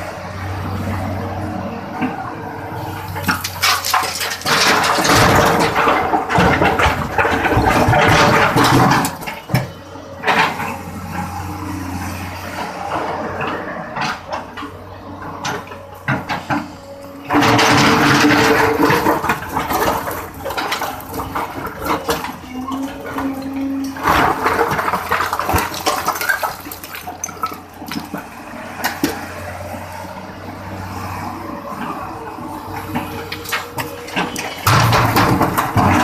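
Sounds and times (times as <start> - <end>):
diesel engine hum: 0.0 - 36.0.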